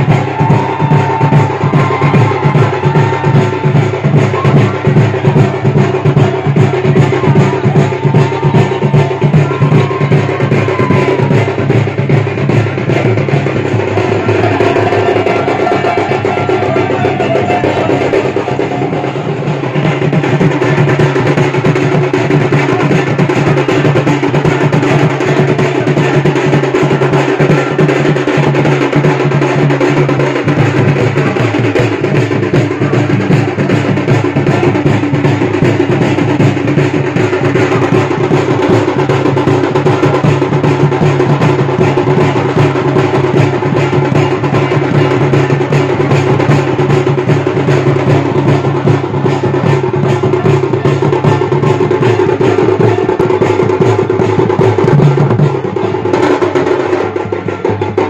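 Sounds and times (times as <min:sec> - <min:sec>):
fast dense drumming: 0:00.0 - 0:58.0.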